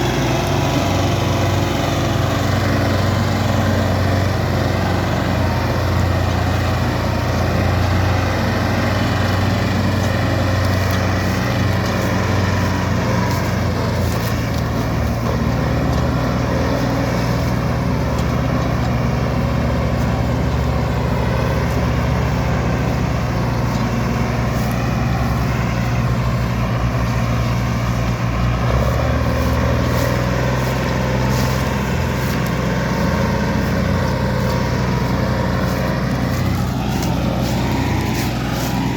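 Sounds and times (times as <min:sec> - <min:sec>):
diesel tractor engine under load: 0:00.0 - 0:38.9.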